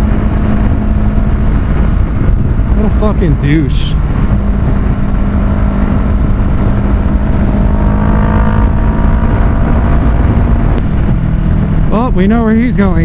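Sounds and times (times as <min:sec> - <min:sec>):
motorcycle engine cruising: 0:00.0 - 0:13.0
wind rushing on microphone: 0:00.0 - 0:13.0.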